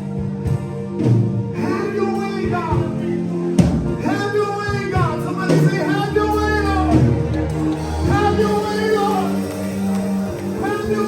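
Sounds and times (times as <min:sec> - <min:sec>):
held keyboard chords: 0:00.0 - 0:11.0.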